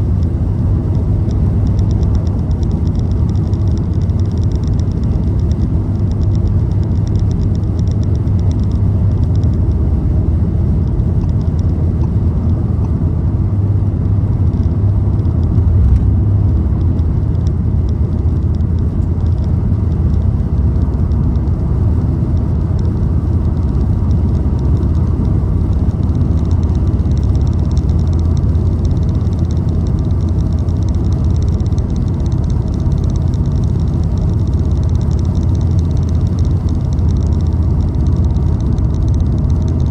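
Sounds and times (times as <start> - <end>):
car cruising rumble: 0.0 - 39.9.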